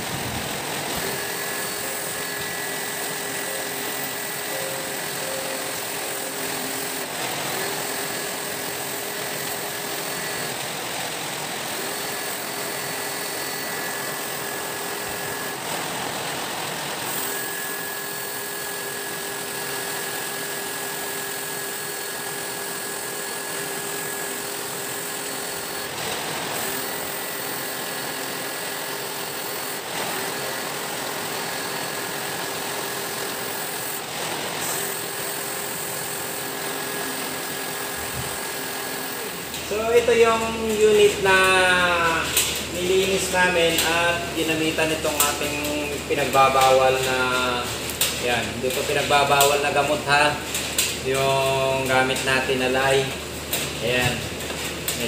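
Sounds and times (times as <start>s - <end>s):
pressure washer pump humming: 0.0s - 55.0s.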